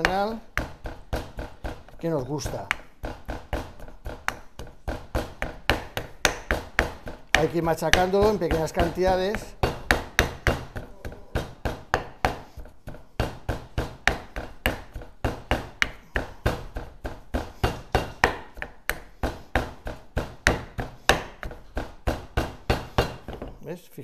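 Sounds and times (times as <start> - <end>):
pestle pounding in mortar: 0.0 - 23.6.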